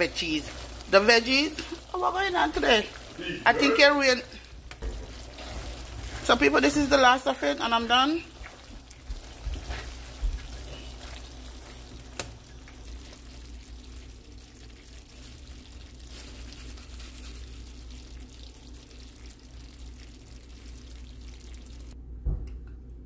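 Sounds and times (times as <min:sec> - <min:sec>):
tongs tossing spaghetti: 0:00.0 - 0:20.2
sauce bubbling in skillet: 0:00.0 - 0:22.0.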